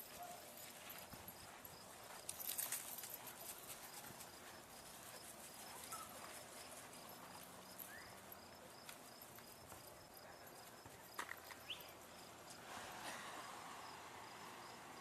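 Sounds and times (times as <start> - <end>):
cricket chirping: 0.0 - 12.6, 13.3 - 15.0.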